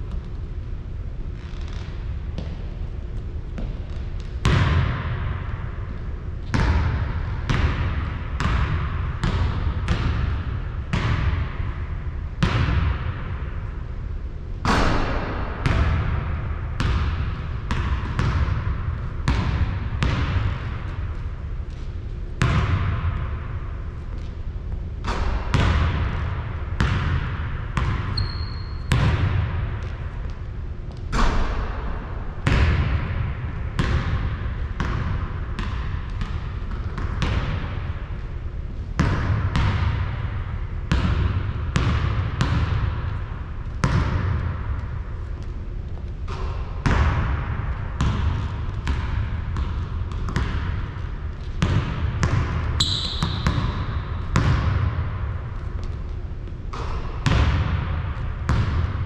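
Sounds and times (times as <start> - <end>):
basketball bouncing on hard court: 1.5 - 2.7, 3.5 - 5.5, 6.4 - 13.5, 14.6 - 24.4, 25.0 - 38.3, 38.9 - 59.0.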